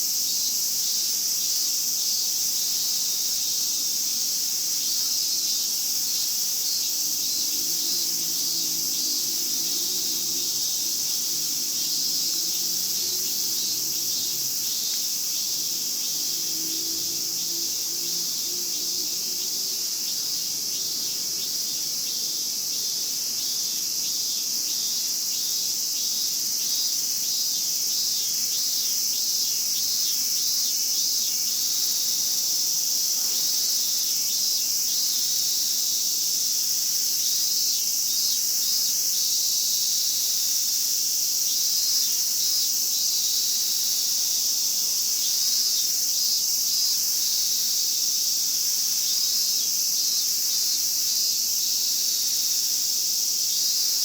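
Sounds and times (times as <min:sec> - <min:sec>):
cicadas shrilling: 0:00.0 - 0:54.0.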